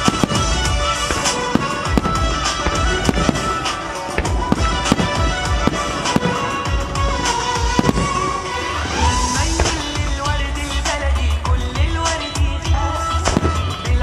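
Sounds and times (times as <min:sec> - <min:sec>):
fireworks bursting with sharp bangs: 0:00.0 - 0:14.0
loud music: 0:00.0 - 0:14.0.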